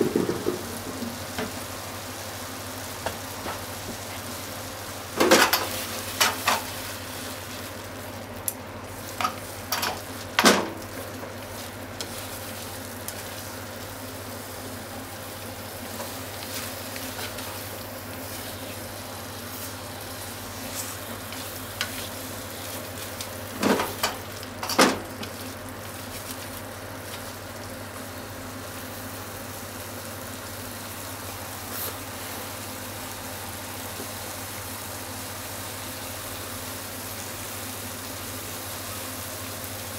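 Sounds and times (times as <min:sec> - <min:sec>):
tofu sizzling in frying pan: 0:00.1 - 0:39.9.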